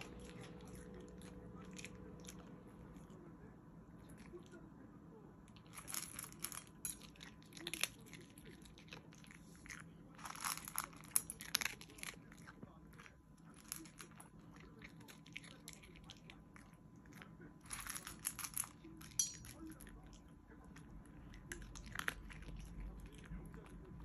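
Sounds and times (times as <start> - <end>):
dog crunching dry kibble: 0.0 - 3.3, 5.5 - 24.0.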